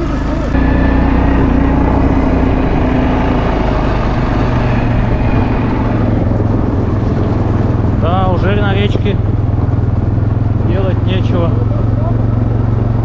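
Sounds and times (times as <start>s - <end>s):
quad bike engine rumbling: 0.0s - 13.0s.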